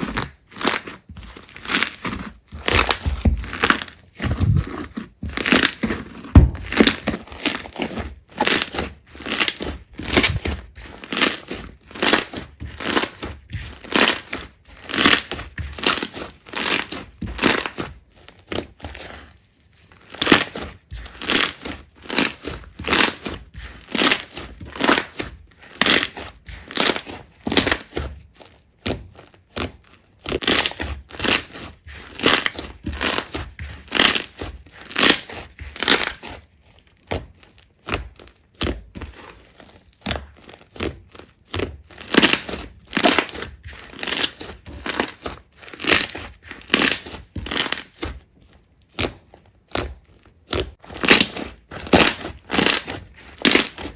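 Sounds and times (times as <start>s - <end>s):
slime squishing by hand: 0.0s - 53.9s.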